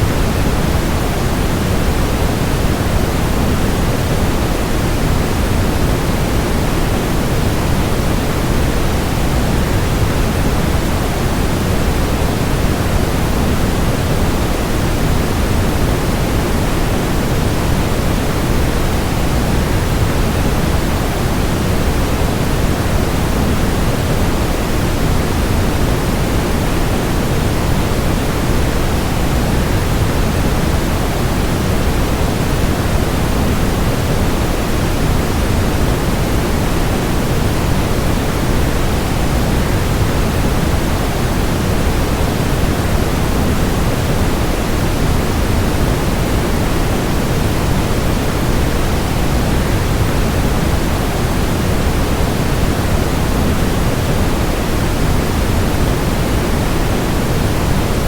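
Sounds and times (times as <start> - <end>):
waterfall rush with white noise: 0.0 - 58.0.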